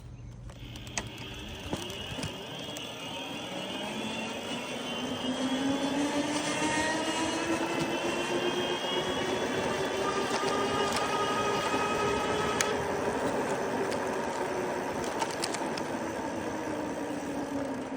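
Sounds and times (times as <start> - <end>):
electric motor whining: 0.4 - 17.9
wind and tyre noise: 1.6 - 17.9.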